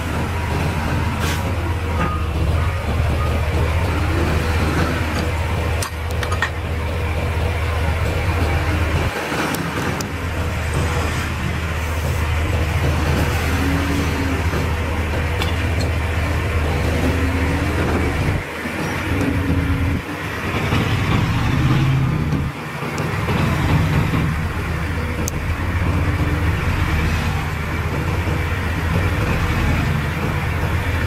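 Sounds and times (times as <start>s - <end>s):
heavy machinery diesel engine: 0.0s - 31.0s.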